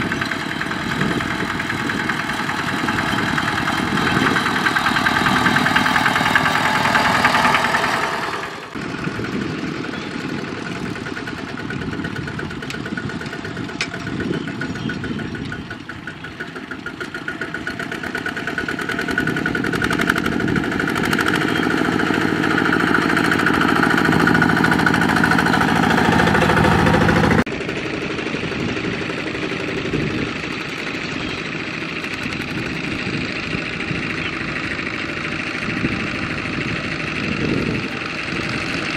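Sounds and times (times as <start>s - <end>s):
diesel tractor engines under load: 0.0s - 38.9s.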